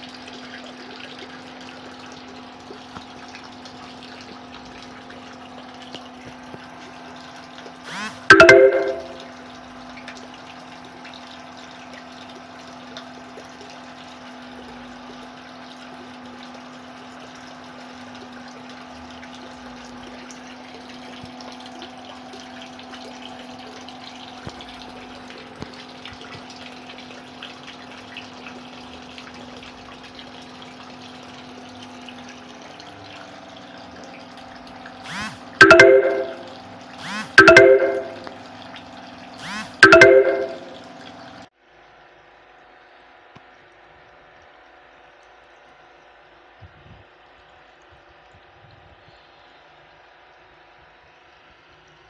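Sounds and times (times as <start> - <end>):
small ticks and splashes: 0.0 - 8.8, 9.5 - 36.3, 38.7 - 52.0
running water in a tank: 0.0 - 52.0
water pump humming: 0.0 - 52.0.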